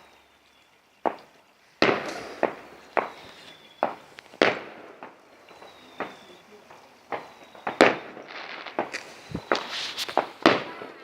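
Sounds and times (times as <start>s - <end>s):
fireworks bangs echoing: 1.0s - 11.0s.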